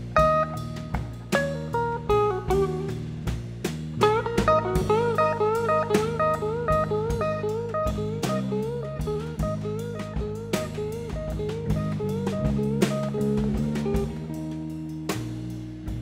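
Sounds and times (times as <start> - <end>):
electric guitar soloing: 0.0 - 15.1
drum kit: 0.0 - 16.0
electric bass: 0.0 - 16.0.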